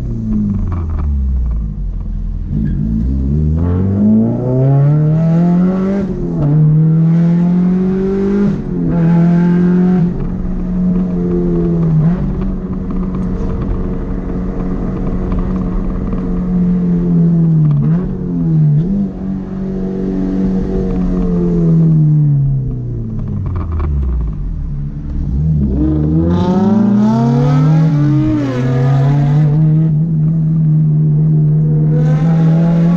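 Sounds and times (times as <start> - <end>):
car engine revving high: 2.4 - 22.5, 24.9 - 32.9.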